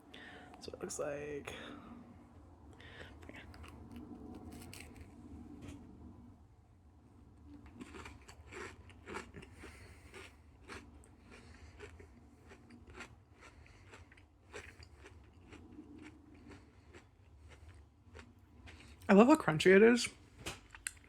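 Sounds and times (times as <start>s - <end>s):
crunching and chewing food: 2.8s - 5.9s, 7.2s - 21.0s.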